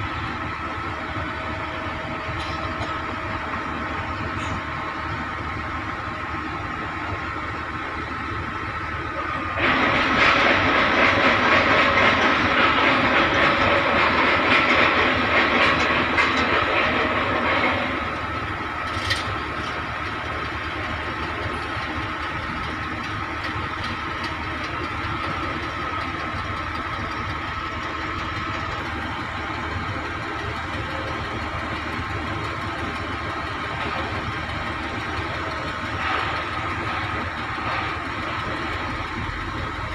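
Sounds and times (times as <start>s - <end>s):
construction machinery engines: 0.0s - 39.9s.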